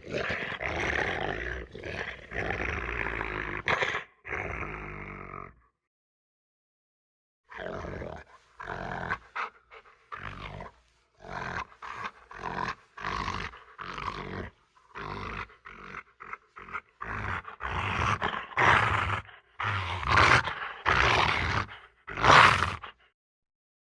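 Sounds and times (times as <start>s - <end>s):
animal growls and roars: 0.0s - 5.8s, 7.5s - 23.1s.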